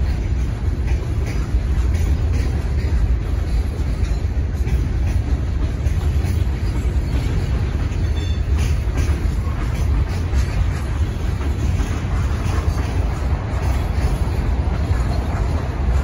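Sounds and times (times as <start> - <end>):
freight train rumbling: 0.0 - 16.0
wheel clicks over rail joints: 0.0 - 16.0.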